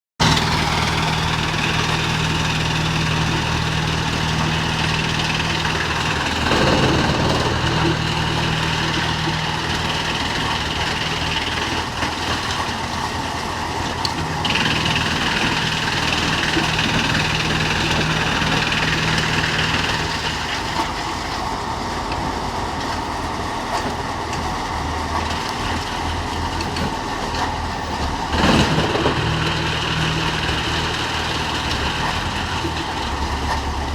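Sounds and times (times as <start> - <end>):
wood chipper running: 0.2 - 33.9.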